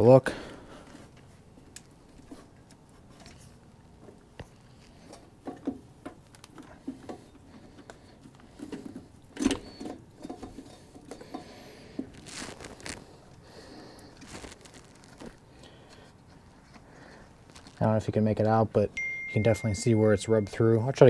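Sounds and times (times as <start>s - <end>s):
wires rustling and scraping: 0.8s - 18.7s.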